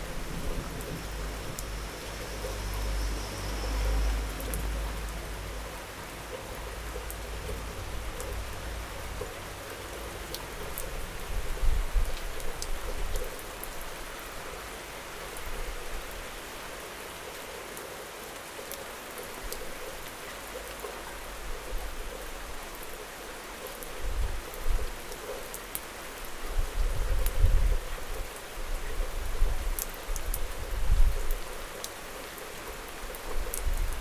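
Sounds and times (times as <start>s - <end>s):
rain on hard surfaces: 0.0s - 34.0s.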